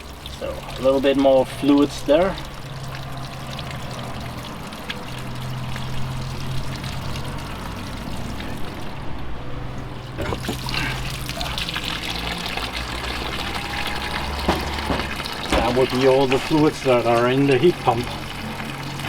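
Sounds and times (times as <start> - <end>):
fluid trickling from a pipe: 0.0 - 19.0.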